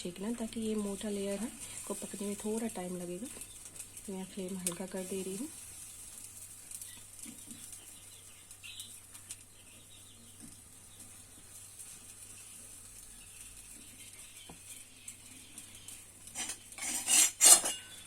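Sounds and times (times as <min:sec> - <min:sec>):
flatbread sizzling on griddle: 0:00.1 - 0:18.0.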